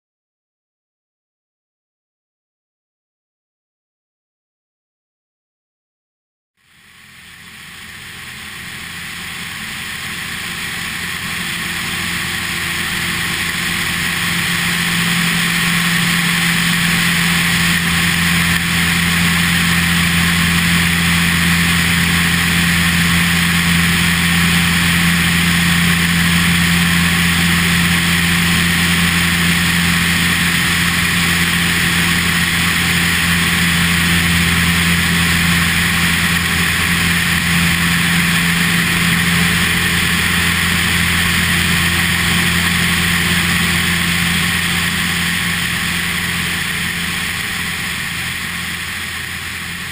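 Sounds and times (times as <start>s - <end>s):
light aircraft engine droning: 6.6s - 49.9s
wind rush on microphone: 8.0s - 49.9s.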